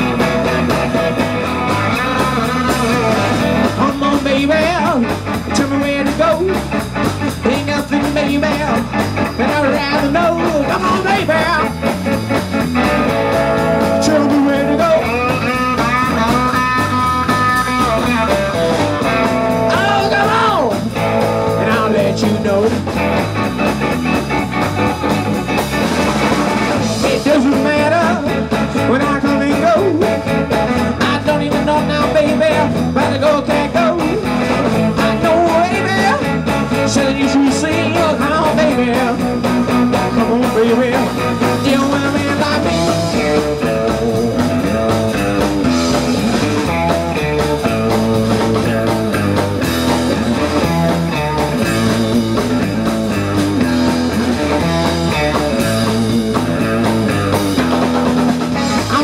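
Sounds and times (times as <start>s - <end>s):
blues band playing: 0.0s - 59.0s.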